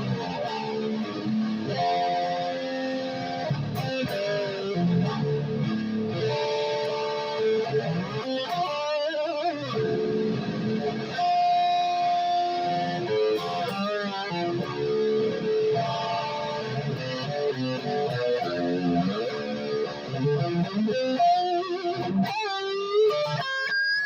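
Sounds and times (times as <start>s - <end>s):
electric guitar lead lines: 0.0s - 24.0s.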